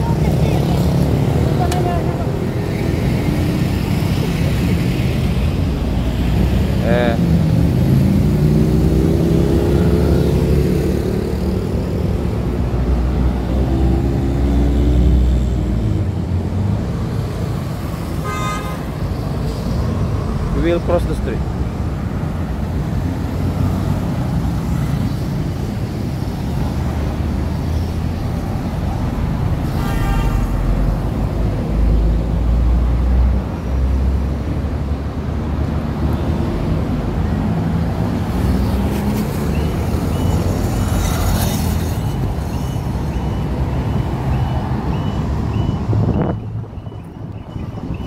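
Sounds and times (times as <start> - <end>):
traffic rumbling past: 0.0 - 48.0.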